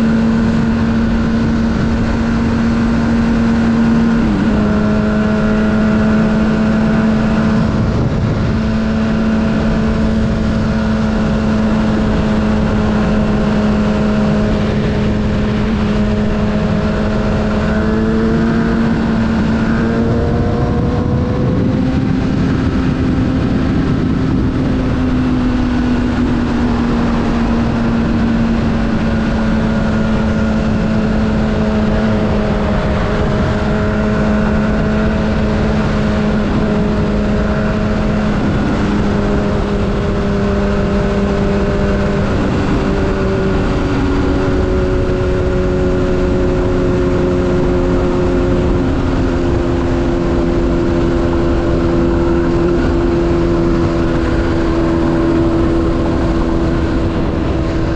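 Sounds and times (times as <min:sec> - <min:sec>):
motorcycle engine hum: 0:00.0 - 0:57.9
wind and road noise: 0:00.0 - 0:57.9.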